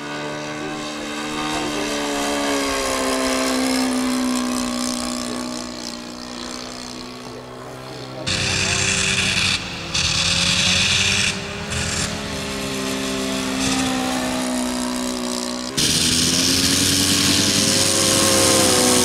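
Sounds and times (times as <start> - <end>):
model aeroplane engine droning: 0.0 - 19.0.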